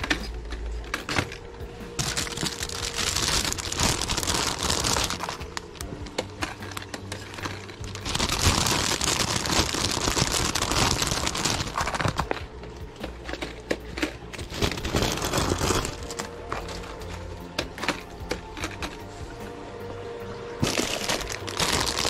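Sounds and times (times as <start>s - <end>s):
plastic packaging crinkling: 0.0s - 18.0s, 20.6s - 22.0s.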